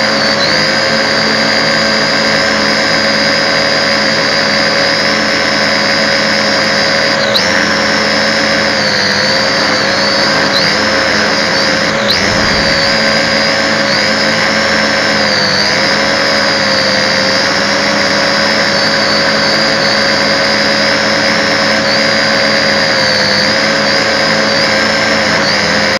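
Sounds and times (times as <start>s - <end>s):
drone propellers whining: 0.0s - 25.9s.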